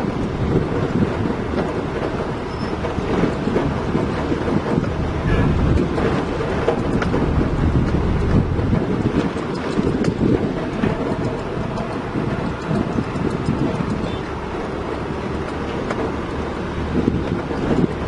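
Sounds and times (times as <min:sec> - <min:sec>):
heavy diesel machinery rumbling: 0:00.0 - 0:18.0
wind buffeting microphone: 0:00.0 - 0:18.0.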